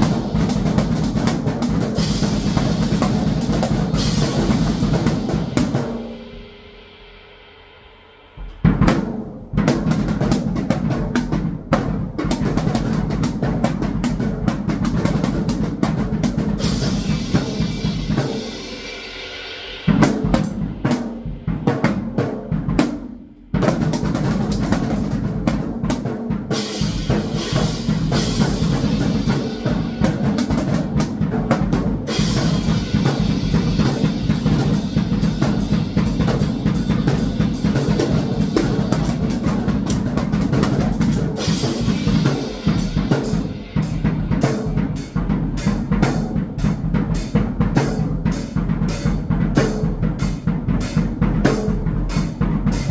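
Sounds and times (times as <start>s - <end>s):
drum kit playing: 0.0s - 52.9s
music: 0.0s - 52.9s.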